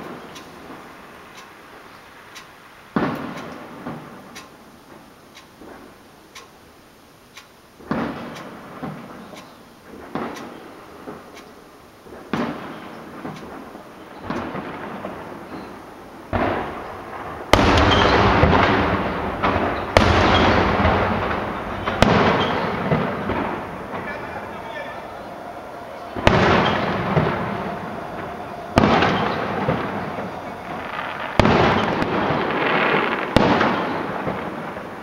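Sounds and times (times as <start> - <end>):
fireworks shells bursting: 0.0 - 6.6, 7.3 - 35.0.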